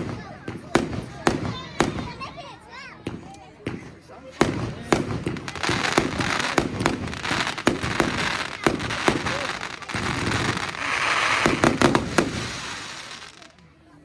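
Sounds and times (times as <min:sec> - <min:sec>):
fireworks bangs: 0:00.0 - 0:13.6
fireworks crackling: 0:00.0 - 0:14.0.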